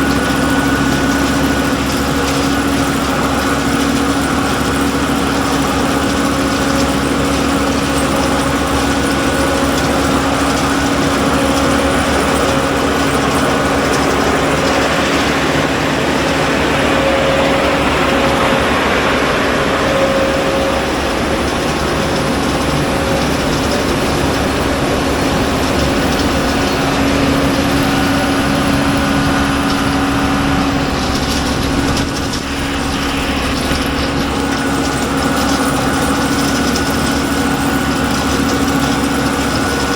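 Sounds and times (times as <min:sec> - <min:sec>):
machine hum: 0:00.0 - 0:39.9
tractor engine running: 0:00.0 - 0:39.9.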